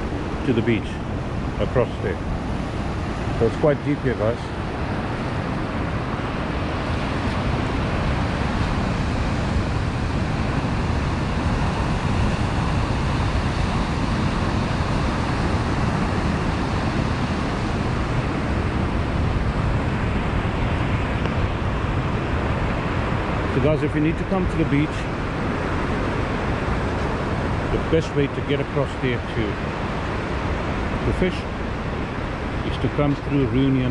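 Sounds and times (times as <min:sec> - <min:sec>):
surf: 0:00.0 - 0:33.9.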